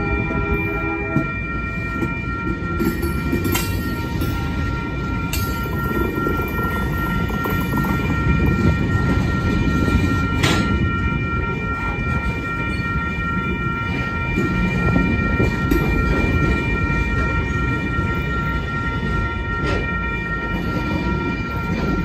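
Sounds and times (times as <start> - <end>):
train car clanking: 0.0 - 22.0
train wheels rumbling on rail: 0.0 - 22.0.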